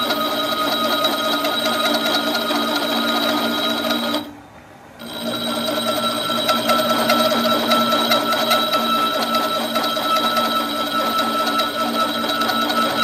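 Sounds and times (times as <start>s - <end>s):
machine tool clatter: 0.0s - 4.3s, 5.0s - 13.0s
steady machine whine: 0.0s - 13.0s.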